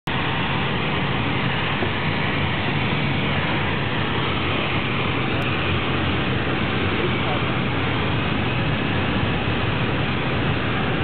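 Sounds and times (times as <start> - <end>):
light airplane engine from cabin: 0.1 - 11.0.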